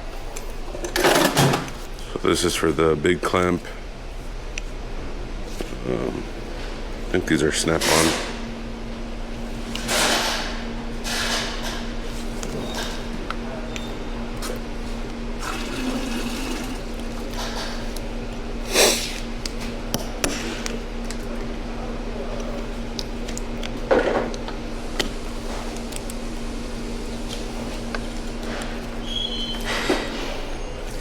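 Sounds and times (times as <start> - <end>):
workshop hum: 0.0 - 31.0.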